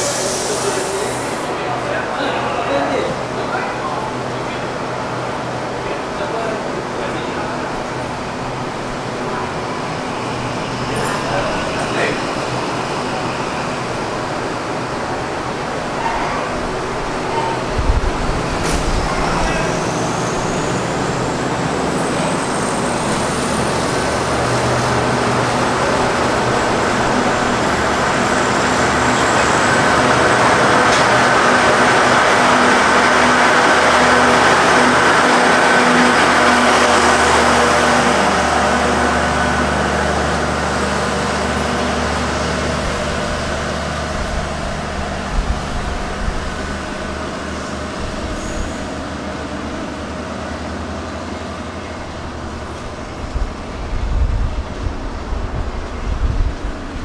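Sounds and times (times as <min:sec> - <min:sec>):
passenger train rumbling past: 0:00.0 - 0:57.0.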